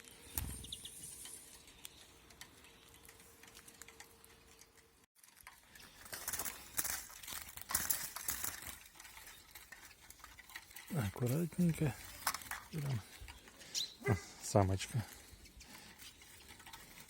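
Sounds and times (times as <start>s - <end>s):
handling rustling: 1.1s - 17.0s.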